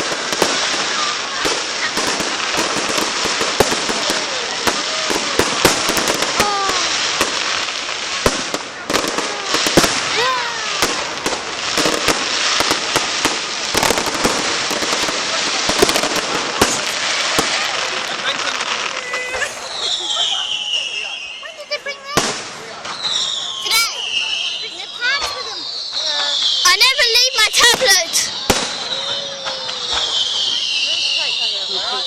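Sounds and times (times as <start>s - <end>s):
fireworks crackling and popping: 0.0s - 32.0s.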